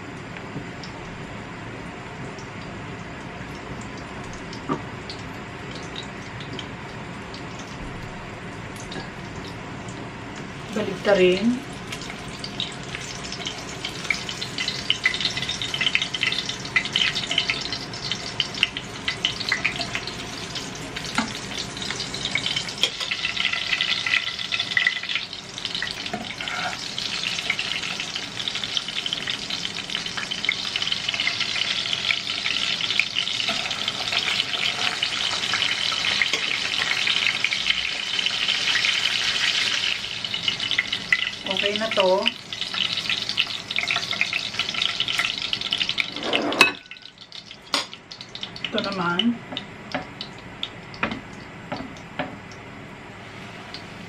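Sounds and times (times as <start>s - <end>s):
cutlets frying in hot oil: 0.0s - 46.2s, 46.8s - 54.0s.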